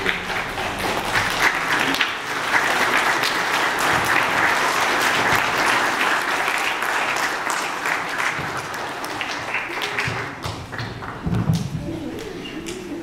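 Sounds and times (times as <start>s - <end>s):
crowd applauding: 0.0s - 11.3s.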